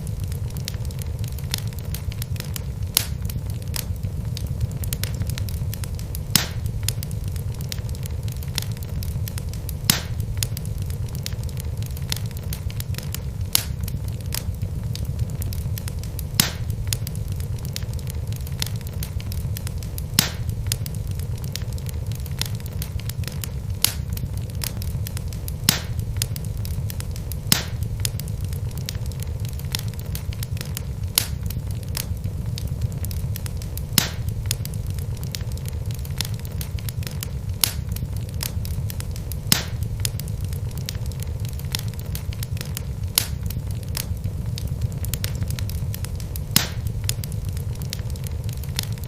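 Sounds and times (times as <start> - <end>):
burning logs crackling and popping: 0.0 - 49.0
low rumble of flame: 0.0 - 49.0.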